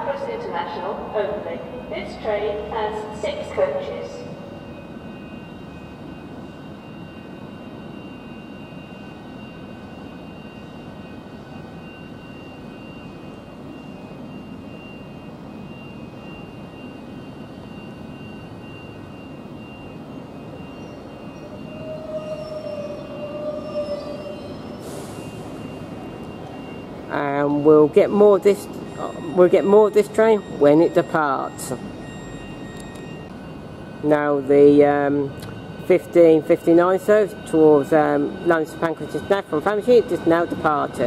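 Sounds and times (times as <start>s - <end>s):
electric train hum and whine: 0.0s - 41.0s
wavering tone: 0.0s - 41.0s.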